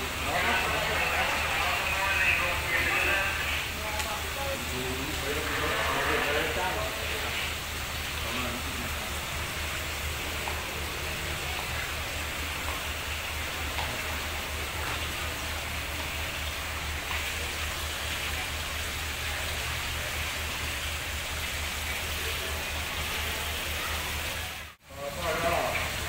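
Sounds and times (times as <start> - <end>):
diesel locomotive idling: 0.0 - 24.7.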